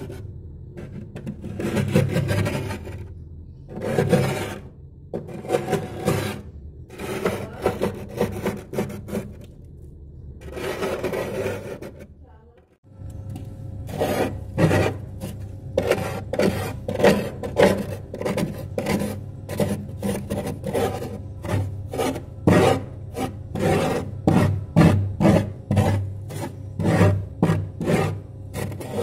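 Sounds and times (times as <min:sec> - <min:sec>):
metal spoon scraping frost: 0:00.0 - 0:03.1, 0:03.7 - 0:09.5, 0:10.4 - 0:12.3, 0:13.8 - 0:29.0
steady low hum: 0:00.0 - 0:29.0.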